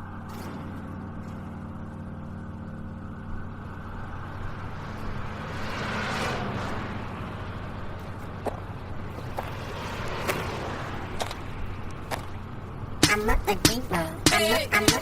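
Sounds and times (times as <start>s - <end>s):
low humming drone: 0.0s - 15.0s.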